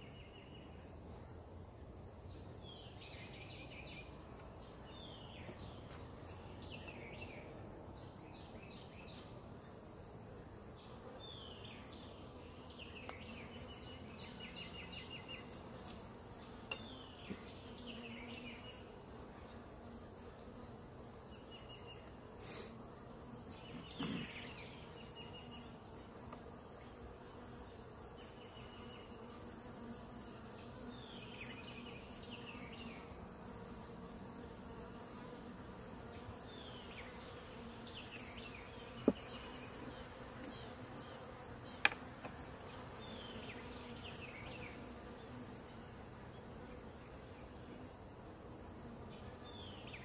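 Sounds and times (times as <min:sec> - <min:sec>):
honeybees buzzing: 0:00.0 - 0:50.0.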